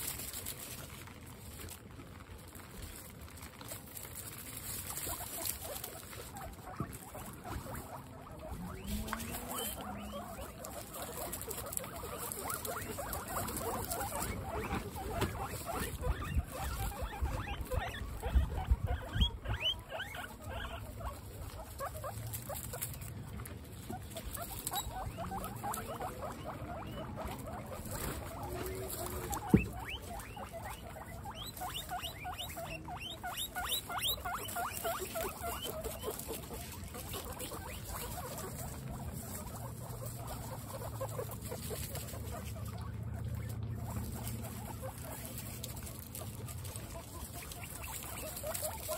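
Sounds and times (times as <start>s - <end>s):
guinea pigs squeaking: 0.0s - 48.9s
rustling through straw hay: 0.0s - 48.9s.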